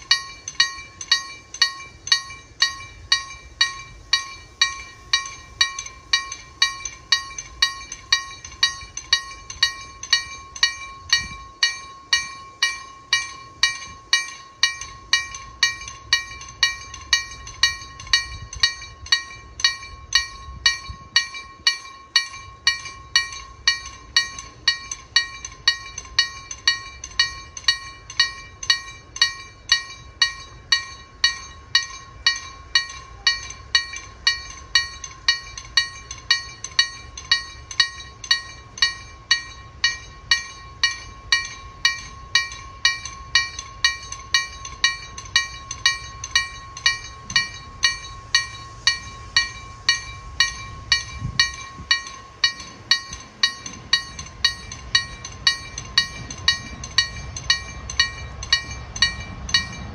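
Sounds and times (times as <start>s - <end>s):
level crossing bell clanging: 0.0s - 59.9s.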